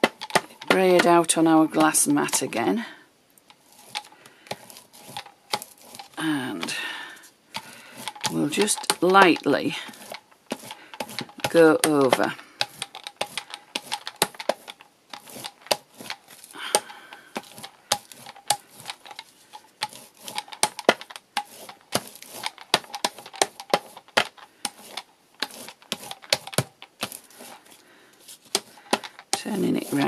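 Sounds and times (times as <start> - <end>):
brayer rolling with tacky clicks: 0.0 - 30.0.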